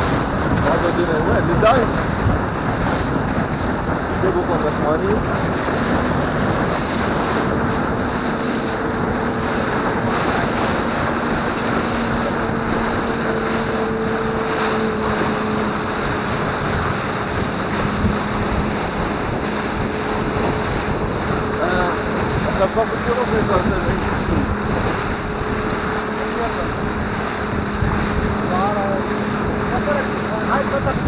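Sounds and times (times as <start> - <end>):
boat engine humming: 0.0 - 31.0
water rushing past hull: 0.0 - 31.0
wind noise on microphone: 0.0 - 31.0.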